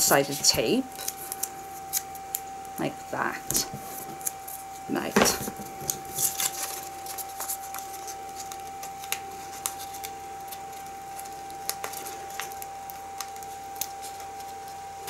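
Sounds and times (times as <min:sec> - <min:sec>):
tape peeling clicks and crackles: 0:00.3 - 0:02.8, 0:03.4 - 0:15.0.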